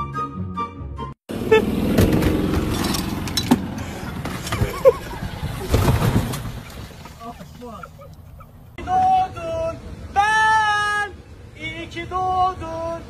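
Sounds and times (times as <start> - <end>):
golf cart rumbling: 1.3 - 13.0.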